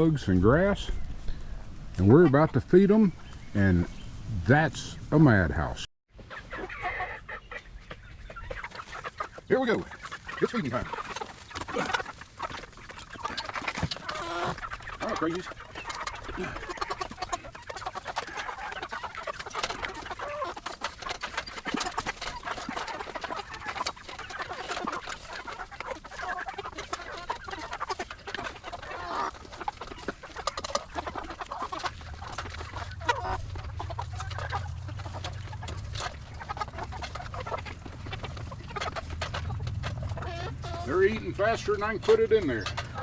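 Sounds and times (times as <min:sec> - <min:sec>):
chickens clucking and squawking: 0:00.0 - 0:43.0.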